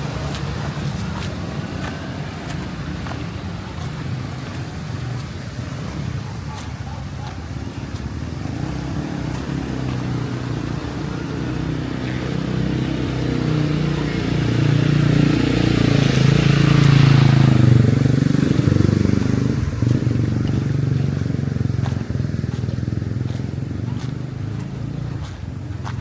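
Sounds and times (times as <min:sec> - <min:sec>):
traffic on flooded street: 0:00.0 - 0:26.0
vehicle passing with rushing hiss: 0:00.0 - 0:26.0.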